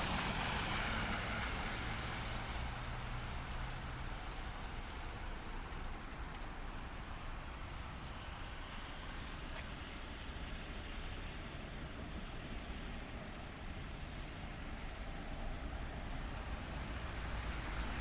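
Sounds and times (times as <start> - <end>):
light rain on street: 0.0 - 18.0
traffic rumble: 0.0 - 18.0.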